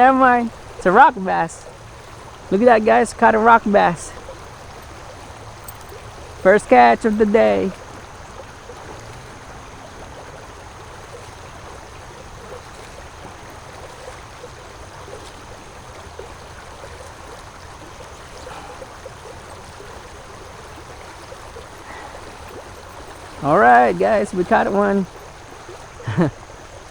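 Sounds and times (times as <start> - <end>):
creek water over rocks: 0.0 - 26.9
small splashes: 0.0 - 26.9.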